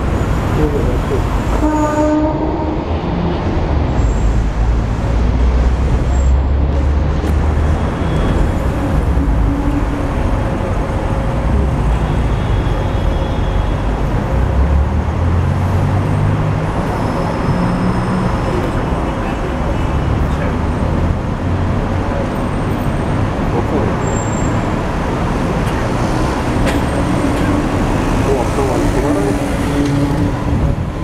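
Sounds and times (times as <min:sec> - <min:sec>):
street traffic: 0:00.0 - 0:31.0
tram wheels rumbling: 0:00.0 - 0:31.0.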